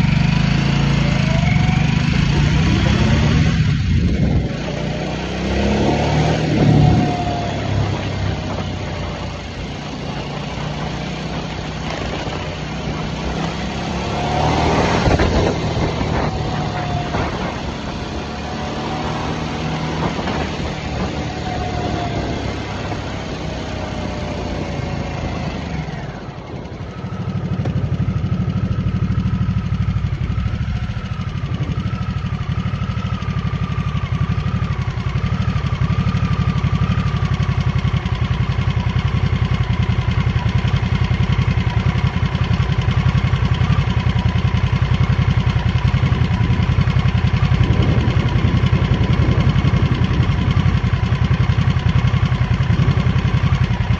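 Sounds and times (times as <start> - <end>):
motorcycle engine running: 0.0 - 53.9
wind and road noise: 0.0 - 53.9.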